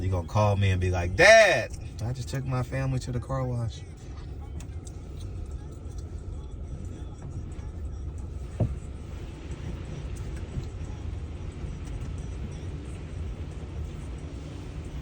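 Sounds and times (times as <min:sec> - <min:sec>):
car wash machinery and water rumble: 0:00.0 - 0:15.0.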